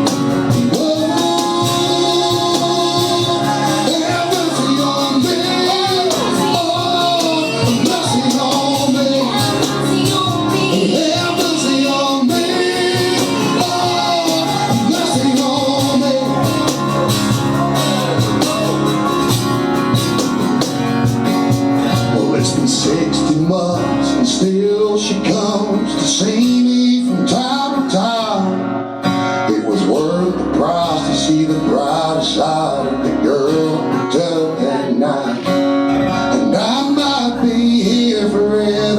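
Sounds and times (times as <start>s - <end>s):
guitar with bending melody: 0.0s - 38.9s
live country band playing: 0.0s - 38.9s.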